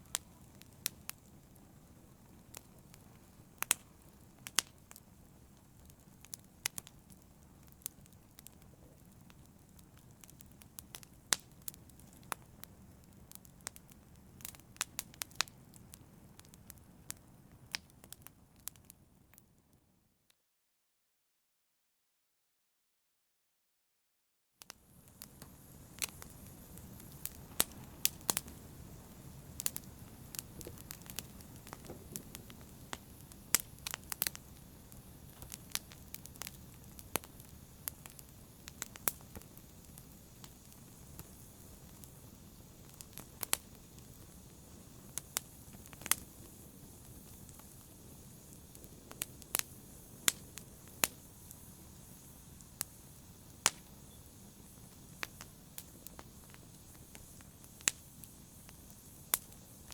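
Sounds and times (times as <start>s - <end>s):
fire crackling and popping: 0.0s - 19.6s, 24.6s - 59.9s.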